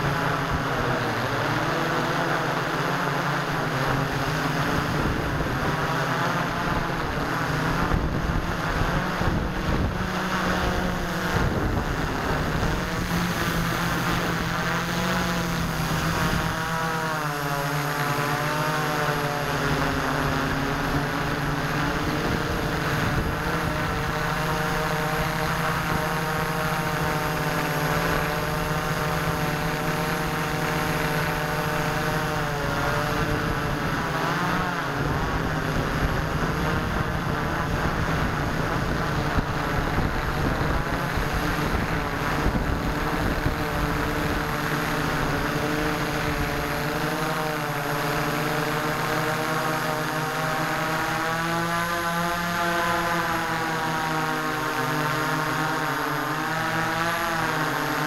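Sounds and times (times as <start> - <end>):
drone propellers buzzing: 0.0 - 58.0.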